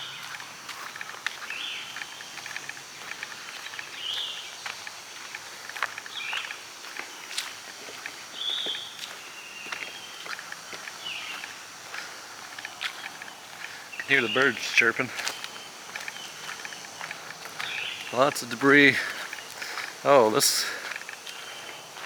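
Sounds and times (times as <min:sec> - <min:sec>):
birds chirping: 0:00.0 - 0:22.0
footsteps: 0:00.0 - 0:22.0.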